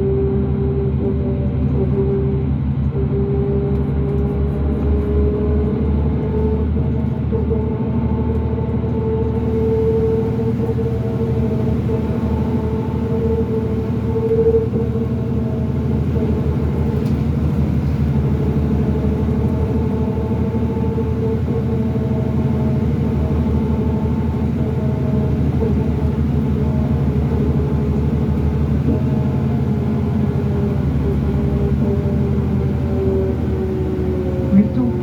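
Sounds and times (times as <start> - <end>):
bus diesel engine rumbling: 0.0 - 35.0
axle whine: 6.2 - 35.0.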